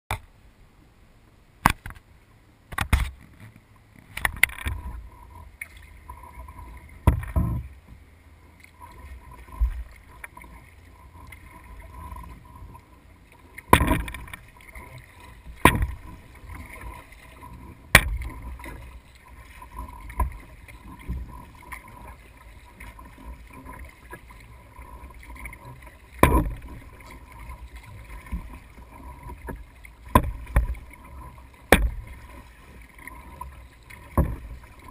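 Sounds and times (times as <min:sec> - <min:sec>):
faint steady hum: 0:00.1 - 0:34.9
low water noise: 0:00.1 - 0:34.9
paddle splashing in water: 0:02.7 - 0:34.9.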